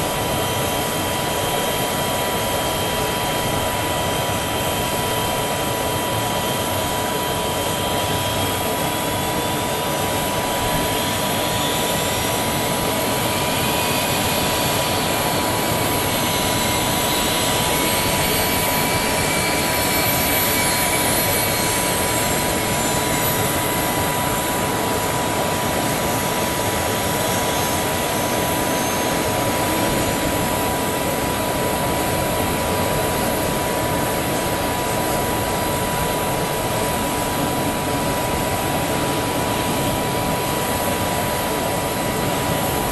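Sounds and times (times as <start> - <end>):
fainter higher whine: 0.0 - 42.9
jet turbine whine: 0.0 - 42.9.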